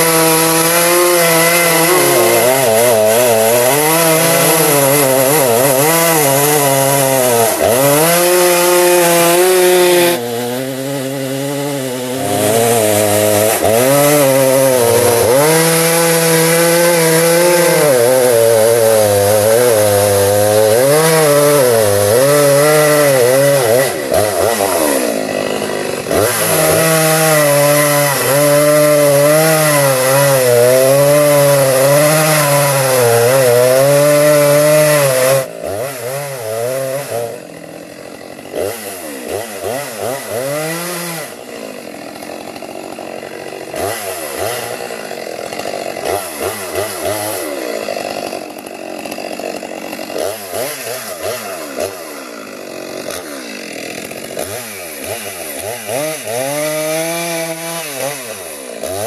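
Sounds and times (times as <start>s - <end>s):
chainsaw cutting and revving: 0.0s - 59.0s.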